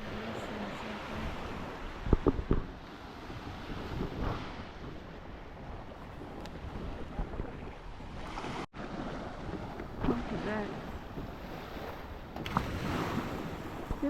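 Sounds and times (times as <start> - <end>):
ocean surf on sandy beach: 0.0 - 14.0
wind buffeting microphone: 0.0 - 14.0.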